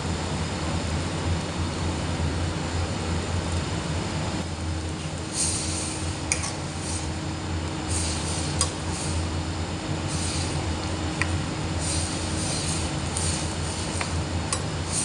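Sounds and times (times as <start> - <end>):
gas burner rumbling: 0.0 - 15.0.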